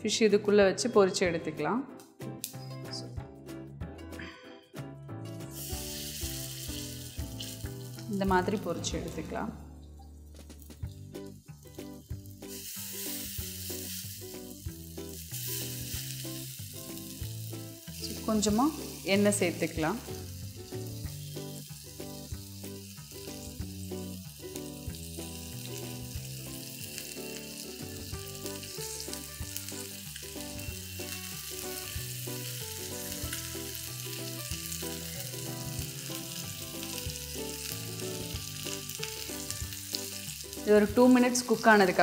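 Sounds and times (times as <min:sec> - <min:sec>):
soft background music: 0:00.0 - 0:42.0
fish sizzling in oil: 0:05.4 - 0:09.4, 0:10.2 - 0:42.0.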